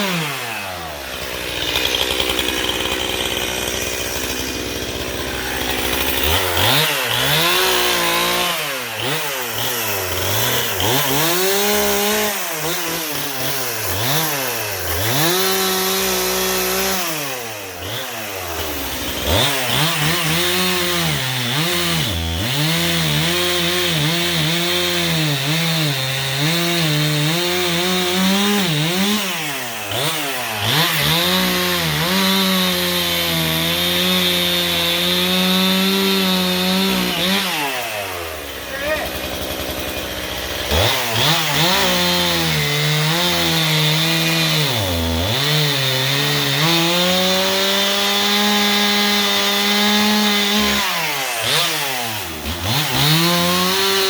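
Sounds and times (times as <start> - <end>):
chainsaw cutting logs: 0.0 - 54.0.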